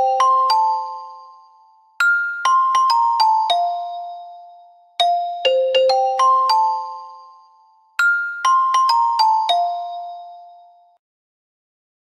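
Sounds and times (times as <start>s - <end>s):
phone ringtone melody: 0.0s - 11.0s.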